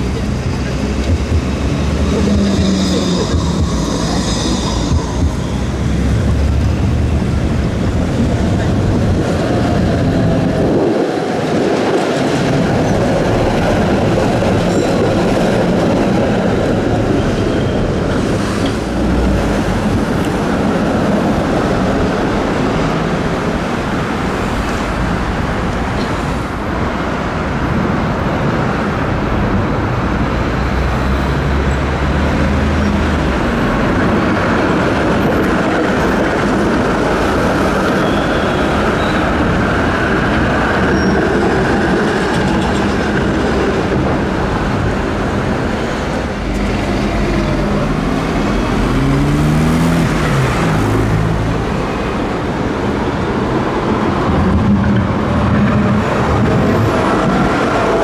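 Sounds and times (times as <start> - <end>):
car and bus engines running: 0.0 - 58.0
trams rolling on rails: 0.0 - 58.0.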